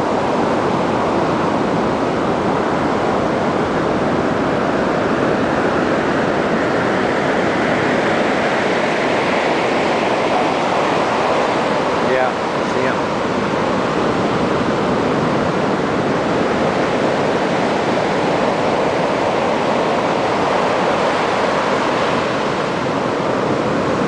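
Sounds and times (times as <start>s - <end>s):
surf breaking on beach: 0.0s - 24.0s.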